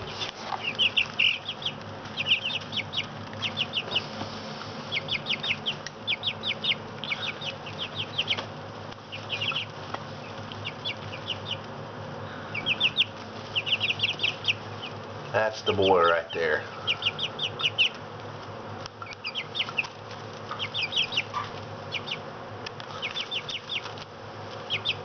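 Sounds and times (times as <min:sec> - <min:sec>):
chicks peeping: 0:00.0 - 0:25.0
steady low hum: 0:00.0 - 0:25.0.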